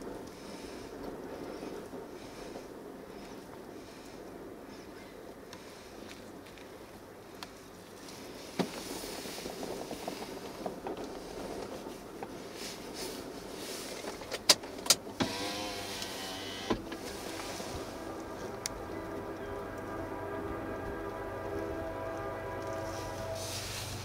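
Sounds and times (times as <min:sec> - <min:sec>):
freight train rumble: 0:00.0 - 0:24.0.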